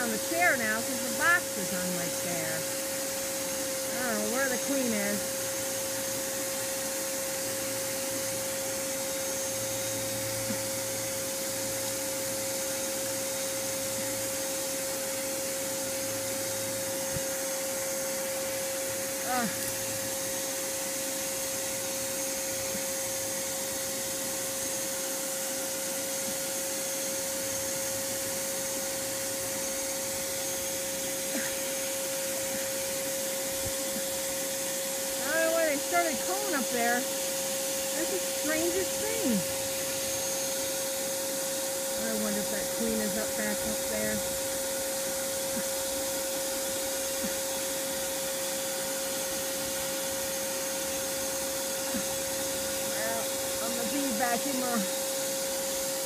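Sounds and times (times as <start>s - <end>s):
bee vacuum whining: 0.0s - 56.0s.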